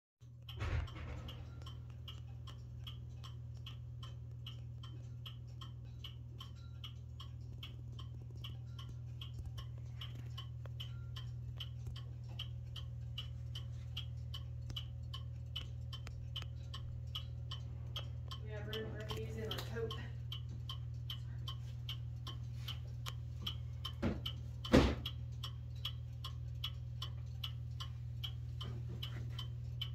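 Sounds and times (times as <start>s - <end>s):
low steady hum: 0.2s - 29.9s
mantel clock ticking: 0.2s - 29.9s.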